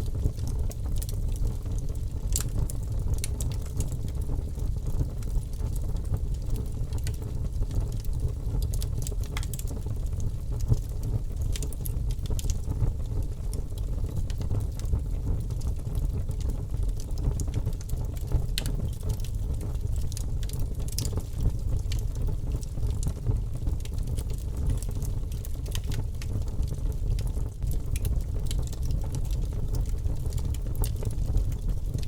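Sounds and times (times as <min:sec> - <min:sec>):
fire crackling and popping: 0:00.0 - 0:32.0
low rumble of flames: 0:00.0 - 0:32.0.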